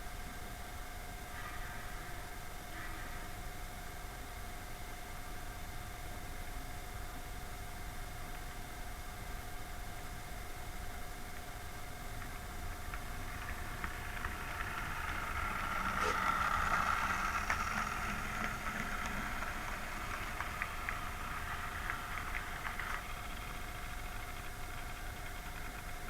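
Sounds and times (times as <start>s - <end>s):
model train whine and rumble: 0.0s - 26.0s.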